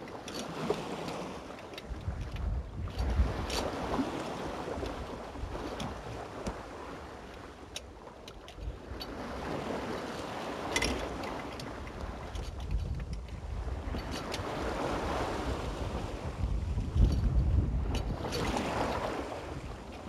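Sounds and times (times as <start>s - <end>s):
sea rushing along hull: 0.0s - 20.0s
waves breaking: 0.0s - 20.0s
wind buffeting microphone: 1.8s - 7.4s, 8.6s - 20.0s.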